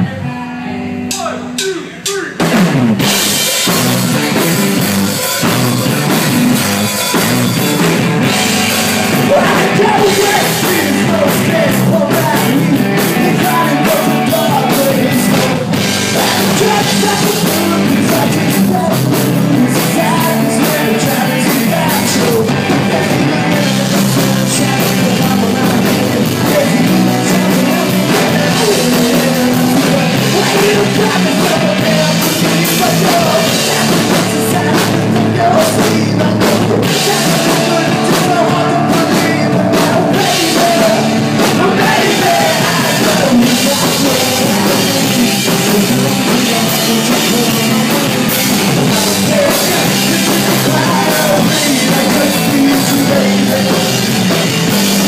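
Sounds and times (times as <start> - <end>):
man singing: 0.0 - 2.4, 5.3 - 55.0
punk rock band playing: 0.0 - 55.0.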